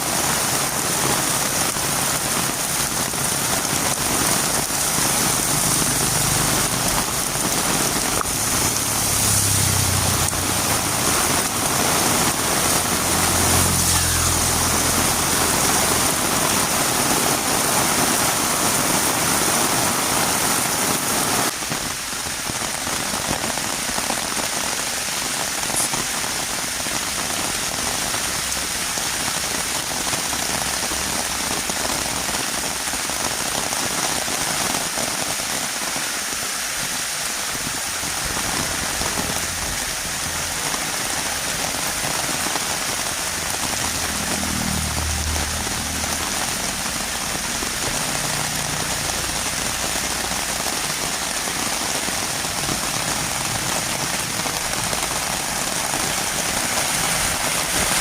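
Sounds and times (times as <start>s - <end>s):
heavy rain on a road: 0.0s - 58.0s.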